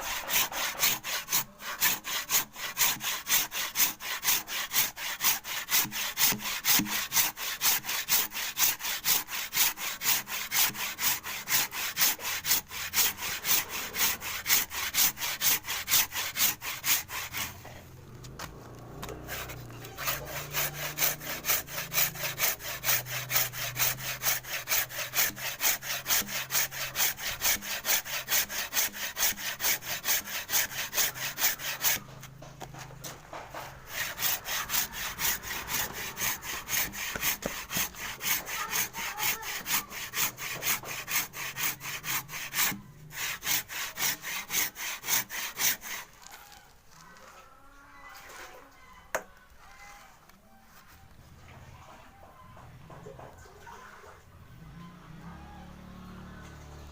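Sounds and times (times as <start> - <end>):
hand saw cutting wood: 0.0 - 47.3.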